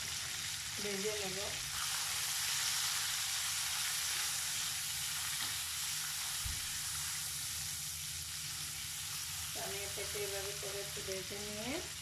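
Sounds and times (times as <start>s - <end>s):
prawns sizzling in hot oil: 0.0s - 12.0s.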